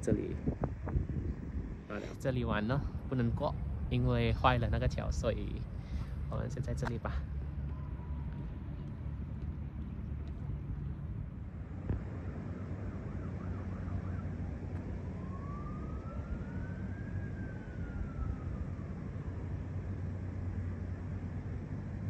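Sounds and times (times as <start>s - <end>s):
wind rumbling on microphone: 0.0s - 22.0s
distant siren wailing: 2.5s - 22.0s.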